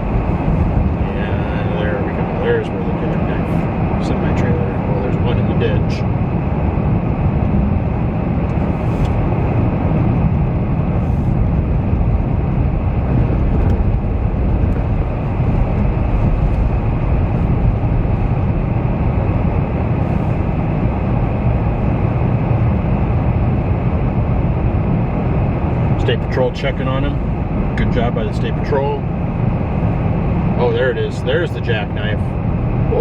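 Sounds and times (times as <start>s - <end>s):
vehicle engine and tyre noise: 0.0s - 33.0s.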